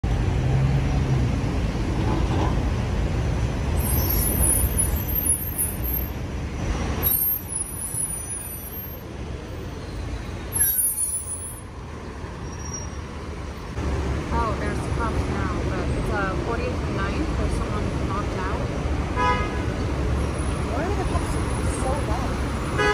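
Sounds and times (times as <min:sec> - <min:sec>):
bus and truck engines rumbling: 0:00.0 - 0:22.9.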